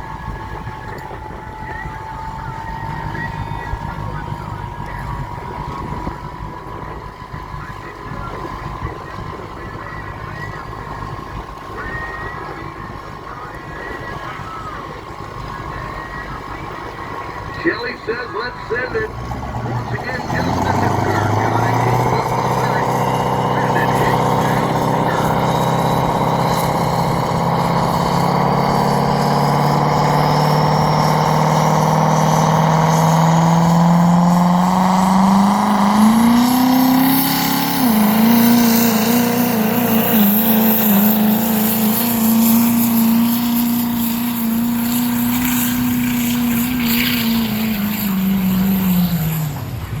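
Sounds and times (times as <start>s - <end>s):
pulling vehicle engine at full throttle: 0.0s - 50.0s.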